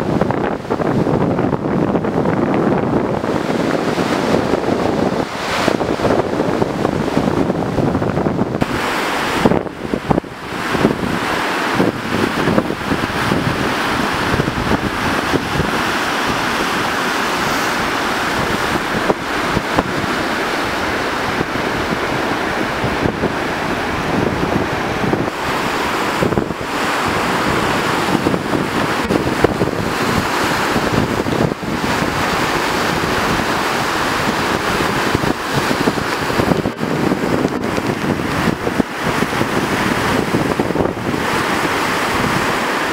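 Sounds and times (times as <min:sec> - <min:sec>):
river water rushing: 0:00.0 - 0:42.9
wind buffeting microphone: 0:00.0 - 0:42.9.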